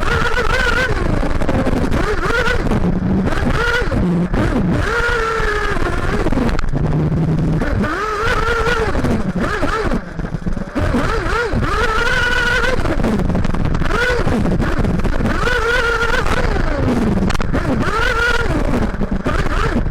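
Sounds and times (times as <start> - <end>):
low rumble of wind and track: 0.0 - 19.9
nitro engine revving: 0.0 - 19.9.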